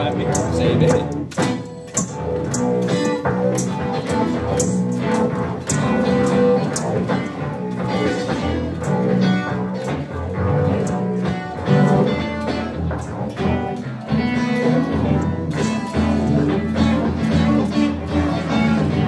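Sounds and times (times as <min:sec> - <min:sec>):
plucked guitar: 0:00.0 - 0:19.0
sharp high ticks: 0:00.2 - 0:16.2.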